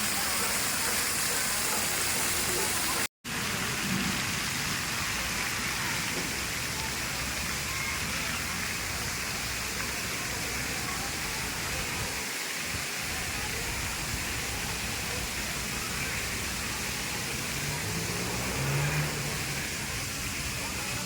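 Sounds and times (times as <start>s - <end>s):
steady rushing outdoor noise: 0.0s - 21.0s.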